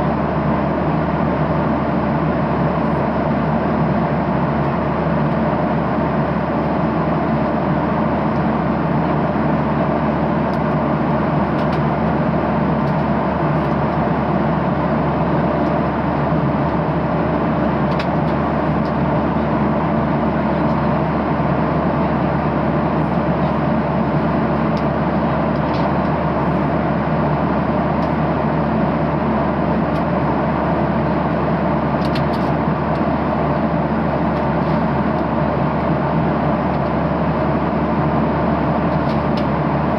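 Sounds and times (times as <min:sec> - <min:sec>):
airplane cabin noise: 0:00.0 - 0:39.9.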